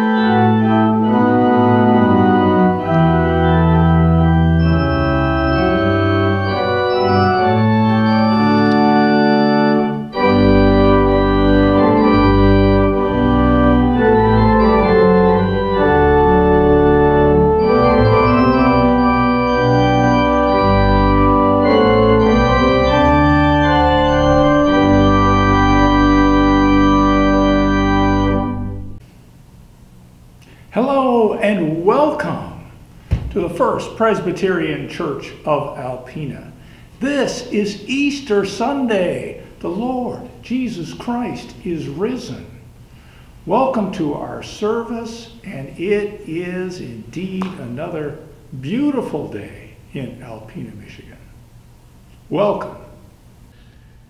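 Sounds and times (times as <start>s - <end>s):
organ playing sustained chords: 0.0s - 29.0s, 30.8s - 54.0s.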